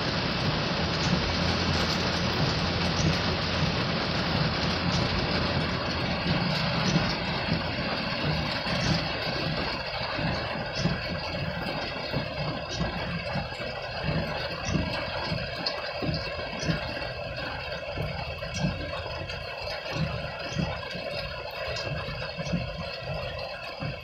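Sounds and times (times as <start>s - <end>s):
heavy rain on a vehicle: 0.0s - 24.0s
raindrops hitting glass: 0.0s - 24.0s.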